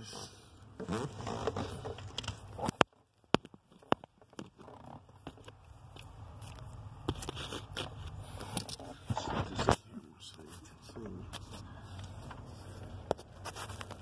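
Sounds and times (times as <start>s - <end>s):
wiring rustling: 0.8s - 14.0s.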